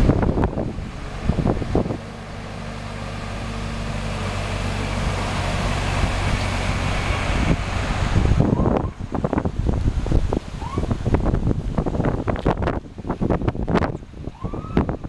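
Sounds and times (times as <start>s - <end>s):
engine humming: 0.0s - 15.0s
wind gusts on microphone: 0.0s - 15.0s.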